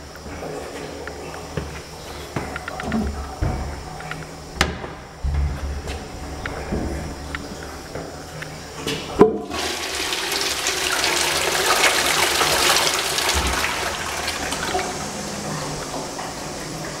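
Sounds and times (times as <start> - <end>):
toilet flushing water rushing: 0.0 - 17.0.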